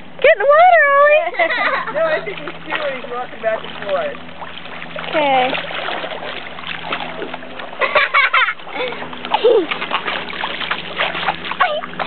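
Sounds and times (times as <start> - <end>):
lake water splashing: 0.0 - 12.0.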